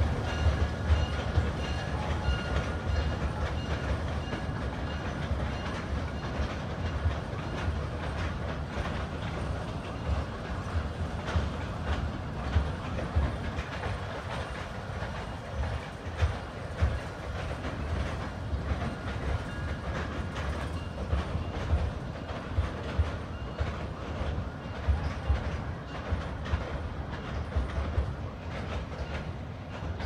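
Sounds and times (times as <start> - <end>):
train rumbling across bridge: 0.0 - 30.0.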